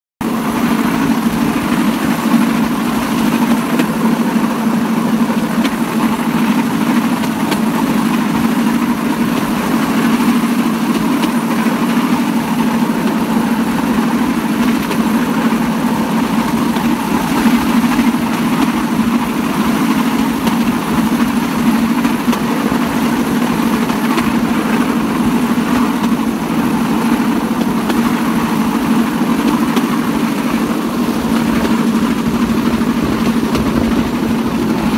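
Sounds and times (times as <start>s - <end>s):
platform and wheels rattling: 0.2s - 34.9s
small petrol engine droning: 0.2s - 34.9s.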